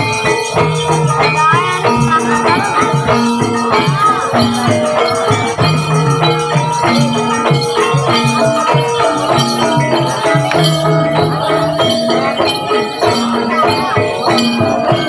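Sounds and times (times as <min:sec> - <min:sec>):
metallophone melody: 0:00.0 - 0:15.0
rattling percussion: 0:00.0 - 0:15.0.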